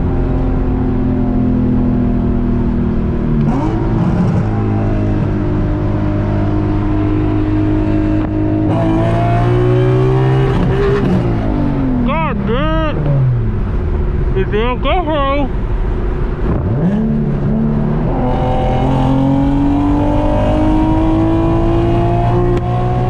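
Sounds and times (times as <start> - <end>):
car engine at highway speed: 0.0 - 23.0.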